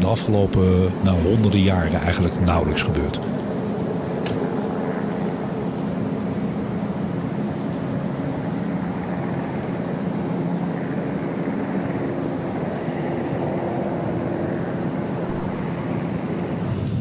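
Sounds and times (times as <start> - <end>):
faint even hum: 0.0 - 17.0.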